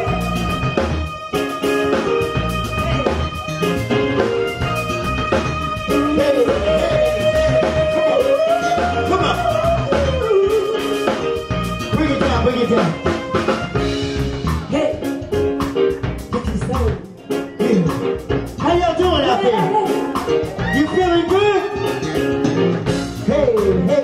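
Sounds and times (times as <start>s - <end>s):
soul band playing: 0.0s - 24.0s.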